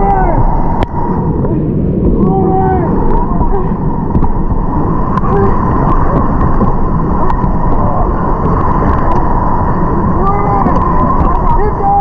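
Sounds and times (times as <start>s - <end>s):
river rapids rushing: 0.0s - 12.0s
wind buffeting camera: 0.0s - 12.0s.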